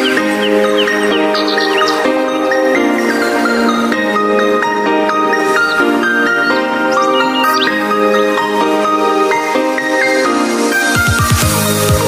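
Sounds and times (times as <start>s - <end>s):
electronic synth music: 0.0s - 12.0s.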